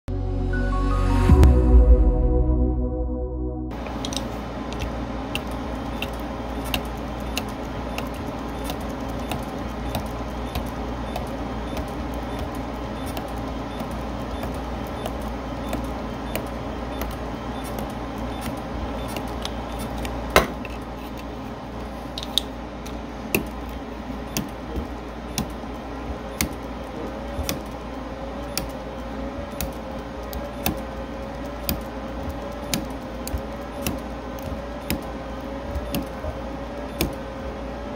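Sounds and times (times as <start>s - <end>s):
steady hum: 0.1s - 37.9s.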